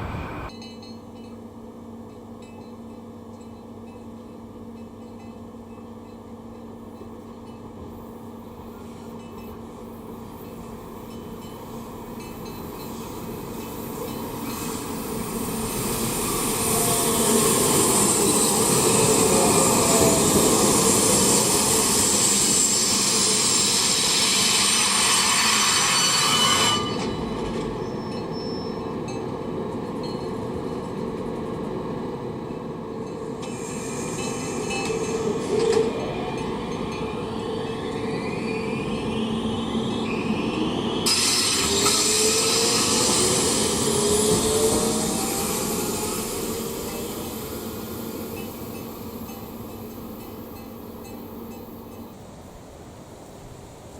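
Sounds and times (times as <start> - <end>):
train running on rails: 0.0 - 53.9.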